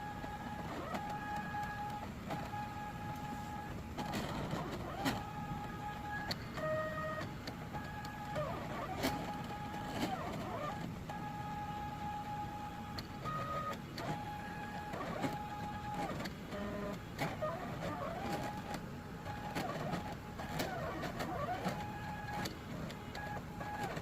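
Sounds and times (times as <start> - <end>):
small mechanical clicks: 0.6 - 11.2, 12.9 - 24.0.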